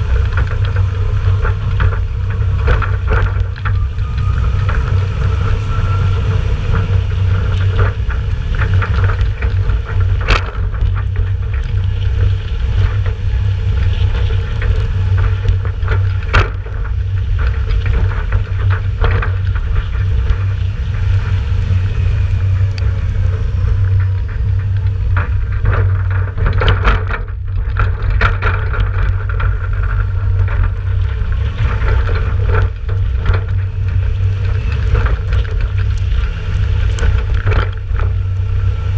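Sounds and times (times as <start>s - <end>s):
tractor diesel engine running: 0.0s - 38.9s
trailer knocking and rattling: 0.0s - 38.9s
trailer rumbling: 0.0s - 38.9s
wind on camera: 0.0s - 38.9s.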